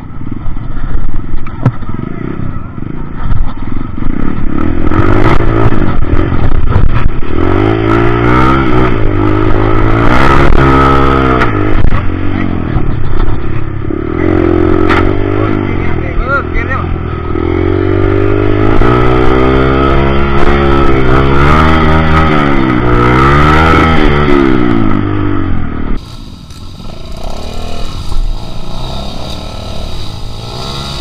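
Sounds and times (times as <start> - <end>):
motorcycle engine revving: 1.6 - 31.0.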